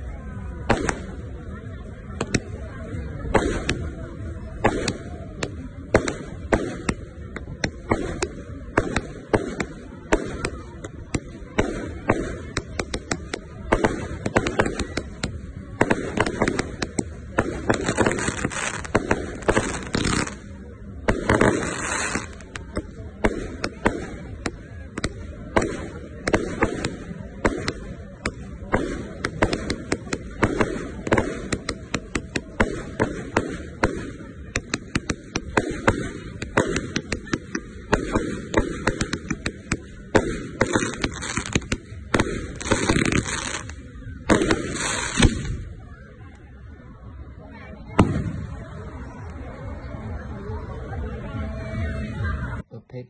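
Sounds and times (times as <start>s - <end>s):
fireworks launching and bursting: 0.2s - 46.2s, 47.9s - 48.9s
loud firework bangs: 3.2s - 45.8s.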